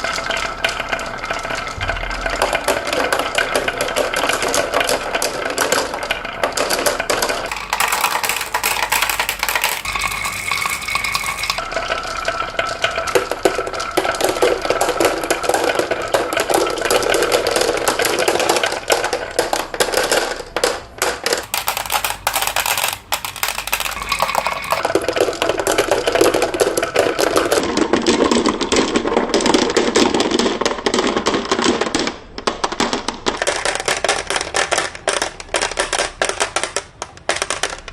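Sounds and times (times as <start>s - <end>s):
marbles rattling down wooden tracks: 3.9s - 37.9s.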